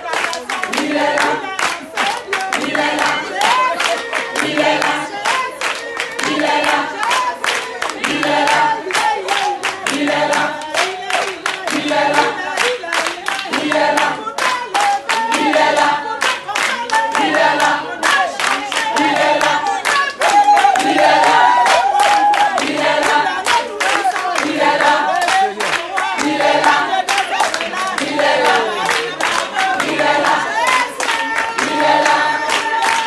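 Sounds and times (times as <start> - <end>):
group of voices singing: 0.0 - 33.0
rhythmic hand-clapping: 0.0 - 33.0.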